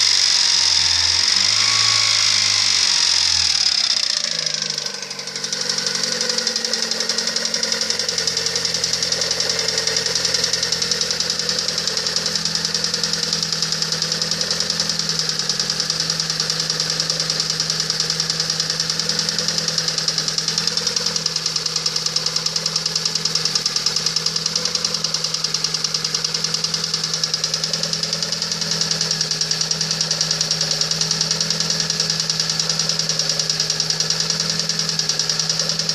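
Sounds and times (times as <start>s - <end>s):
car engine running with knock: 0.0s - 35.9s.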